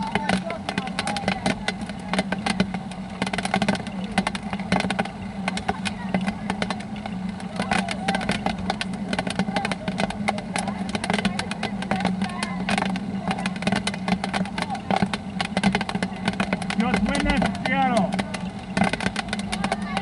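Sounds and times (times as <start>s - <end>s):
faint distant voices: 0.0s - 20.0s
raindrops tapping on umbrella: 0.0s - 20.0s
steady low hum: 0.0s - 20.0s.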